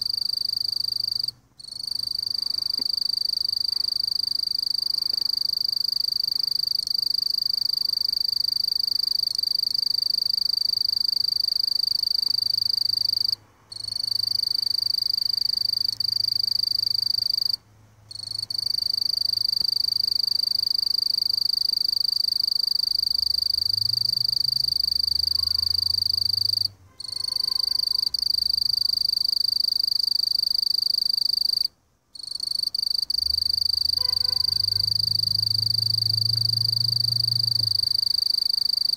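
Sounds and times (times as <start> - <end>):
bush cricket singing: 0.0 - 38.9.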